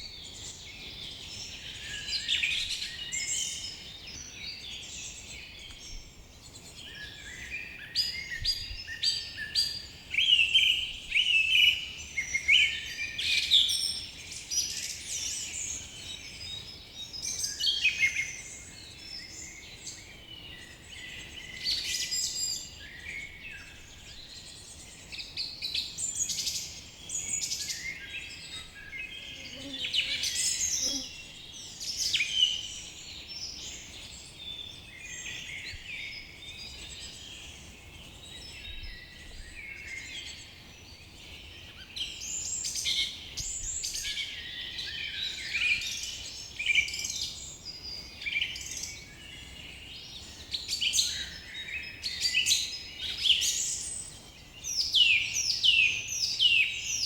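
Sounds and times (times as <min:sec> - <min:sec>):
songbirds chorus: 0:00.0 - 0:57.0.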